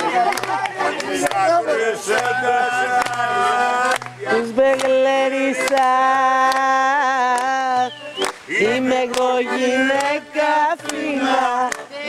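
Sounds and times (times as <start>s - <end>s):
piano accordion playing: 0.0s - 12.0s
voices singing along: 0.0s - 12.0s.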